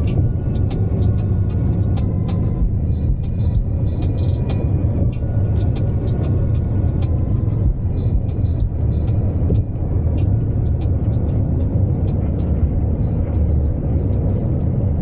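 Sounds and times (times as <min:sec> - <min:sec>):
car engine and road rumble: 0:00.0 - 0:15.0
sharp high ticks: 0:00.1 - 0:15.0.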